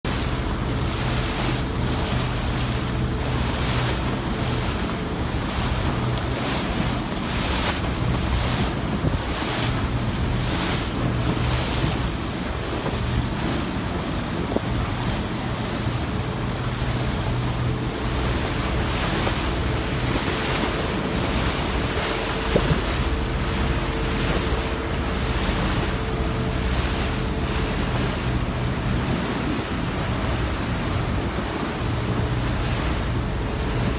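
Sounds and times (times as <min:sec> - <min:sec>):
sea water washing past boat: 0:00.0 - 0:33.9
wind buffeting microphone: 0:00.1 - 0:33.9.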